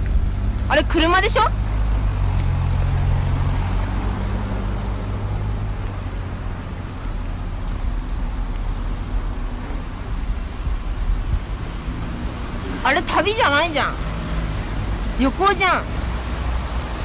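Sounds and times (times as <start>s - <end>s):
high-pitched insect trill: 0.0s - 17.0s
road traffic rumble: 0.0s - 17.0s.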